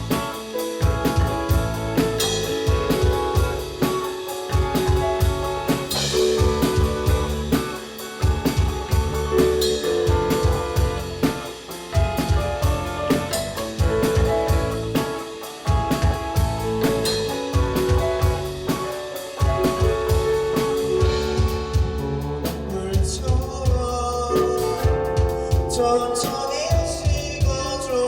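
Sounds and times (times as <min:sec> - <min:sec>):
band music: 0:00.0 - 0:28.0
drum kit beat: 0:00.0 - 0:28.0.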